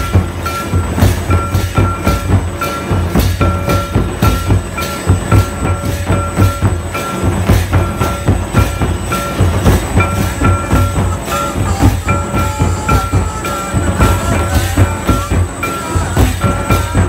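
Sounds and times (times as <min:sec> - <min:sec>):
high held notes: 0:00.0 - 0:17.0
pounding drum rhythm: 0:00.0 - 0:17.0.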